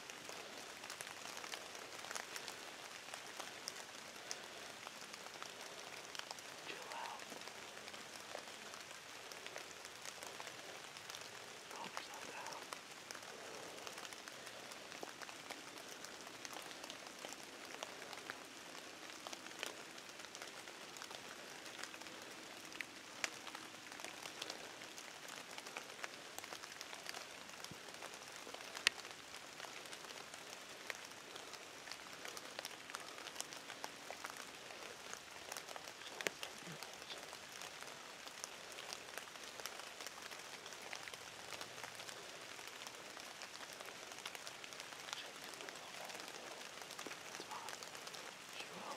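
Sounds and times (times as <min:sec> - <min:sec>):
light rain pattering: 0:00.0 - 0:48.9.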